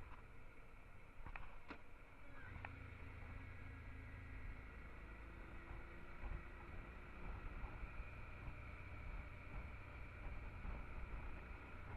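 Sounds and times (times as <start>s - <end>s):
motorcycle engine rumble: 0.0s - 11.9s
road noise: 0.0s - 11.9s.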